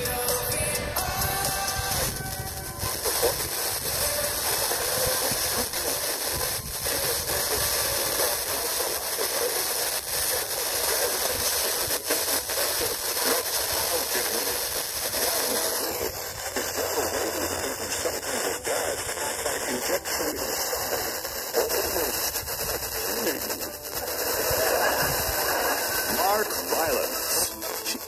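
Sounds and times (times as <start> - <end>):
faint radio audio: 0.0 - 28.0
radio static hiss: 0.0 - 28.0.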